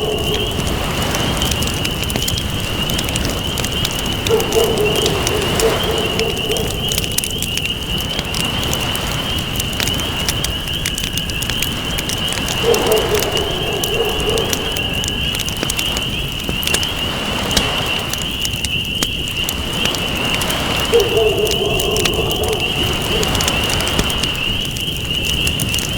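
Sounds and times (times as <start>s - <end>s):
waves washing: 0.0s - 24.8s
campfire crackling and popping: 0.0s - 25.9s.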